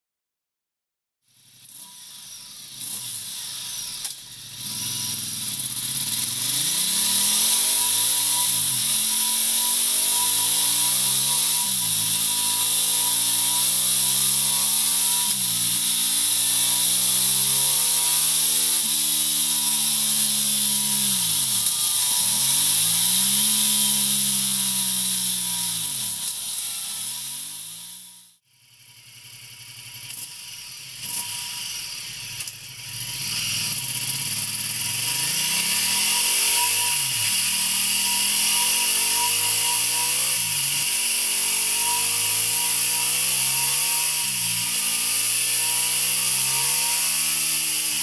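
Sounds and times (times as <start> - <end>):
motorcycle engine accelerating: 1.3 - 48.0.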